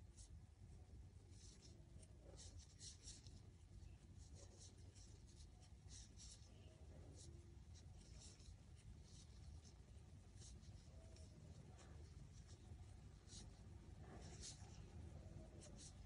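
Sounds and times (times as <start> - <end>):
low room hum: 0.0 - 16.0
crochet hook scratching yarn: 1.3 - 16.0.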